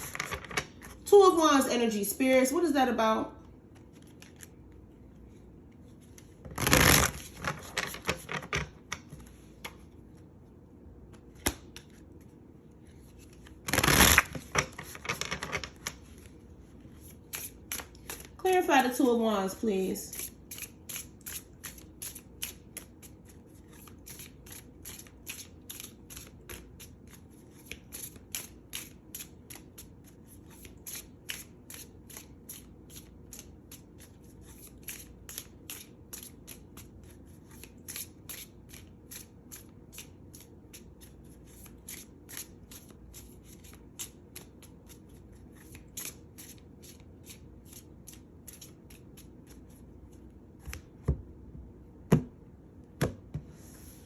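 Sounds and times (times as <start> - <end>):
cards being shuffled: 0.0 - 1.0, 3.6 - 10.2, 11.1 - 18.4, 20.1 - 51.0.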